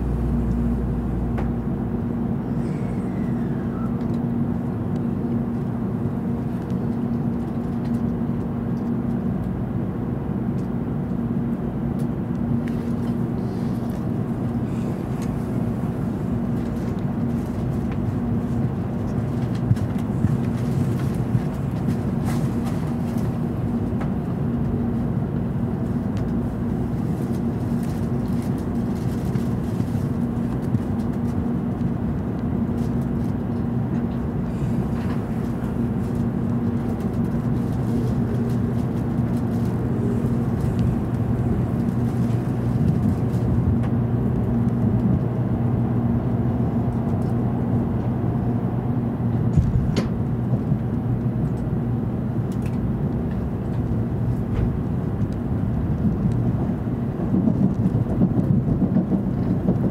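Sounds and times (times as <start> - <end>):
train cabin rumble and hum: 0.0 - 59.9.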